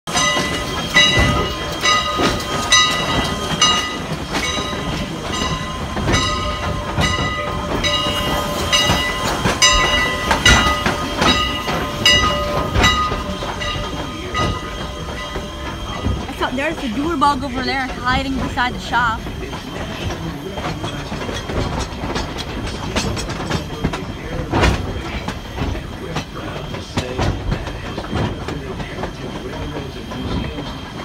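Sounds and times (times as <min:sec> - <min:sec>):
train cars rumbling on track: 0:00.1 - 0:31.0
train wheels clicking over rail joints: 0:00.1 - 0:31.0.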